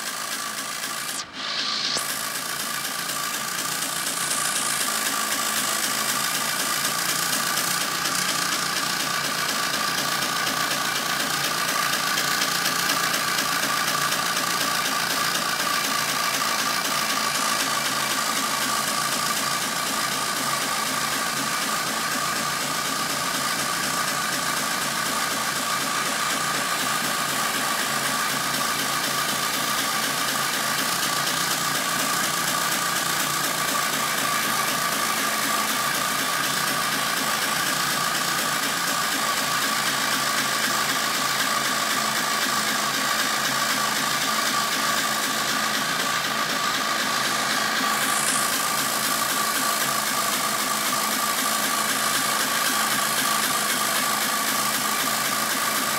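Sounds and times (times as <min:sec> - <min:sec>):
constant high whine: 0:00.0 - 0:55.9
tractor engine running: 0:00.0 - 0:55.9.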